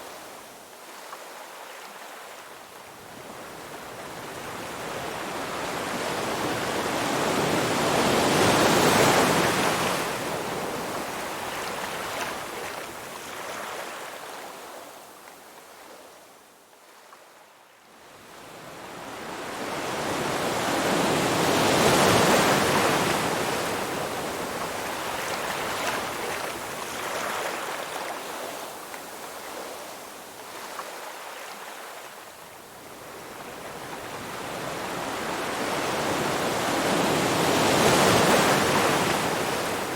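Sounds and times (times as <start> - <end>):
ocean waves breaking on shore: 0.0 - 14.5, 18.2 - 39.9.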